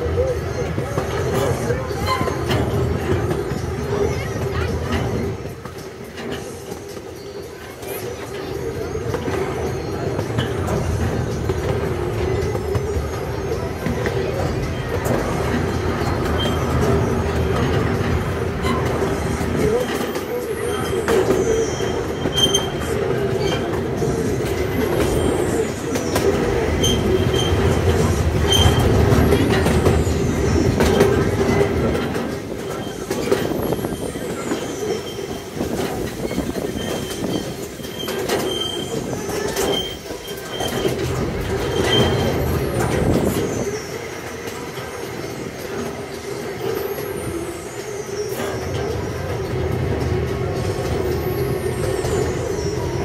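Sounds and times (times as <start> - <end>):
miniature train rumbling on rails: 0.0 - 53.0.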